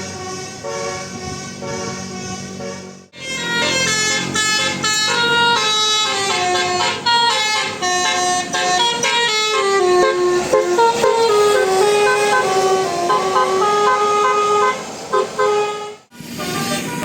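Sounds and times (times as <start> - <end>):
multi-tone bus air horns: 0.0 - 17.0.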